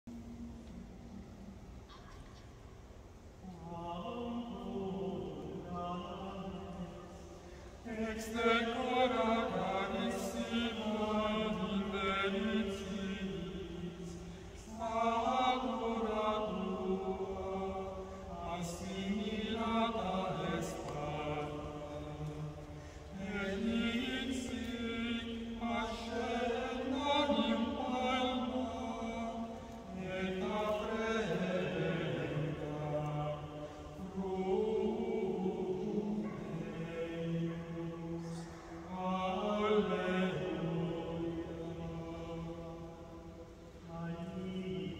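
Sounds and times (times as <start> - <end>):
choir singing a cappella: 3.1 - 44.9.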